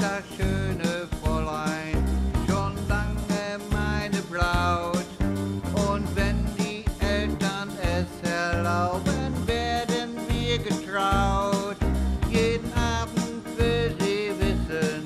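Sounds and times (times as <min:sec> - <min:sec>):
upbeat country band music: 0:00.0 - 0:15.0.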